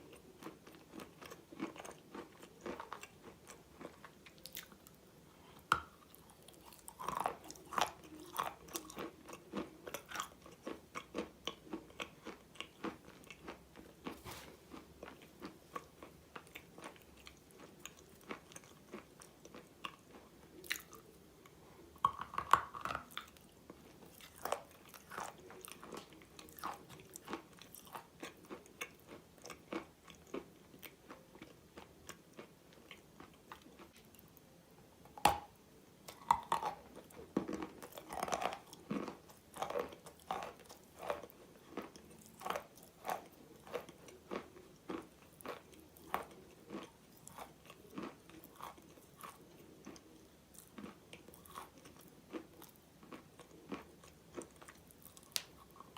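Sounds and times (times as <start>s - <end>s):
crunchy biting and chewing: 5.6s - 21.1s, 24.0s - 34.2s, 36.1s - 55.9s.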